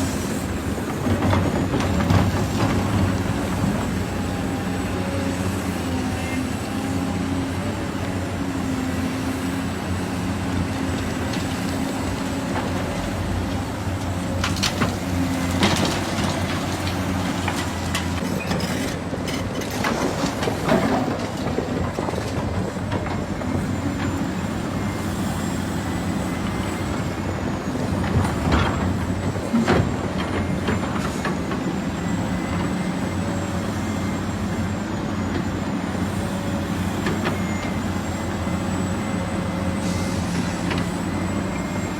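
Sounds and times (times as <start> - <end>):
diesel machinery engines running: 0.0 - 41.9.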